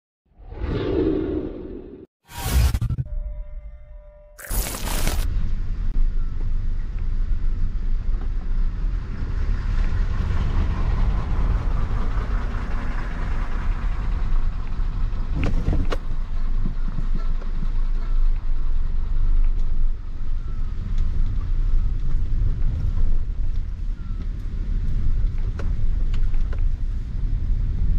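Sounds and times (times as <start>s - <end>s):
car engine and tyres rumbling: 4.6s - 27.9s.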